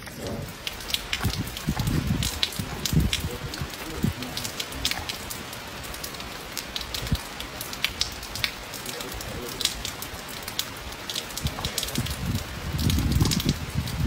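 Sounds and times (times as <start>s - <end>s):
light crackles and sharp ticks: 0.0s - 14.0s
steady outdoor hiss: 0.0s - 14.0s.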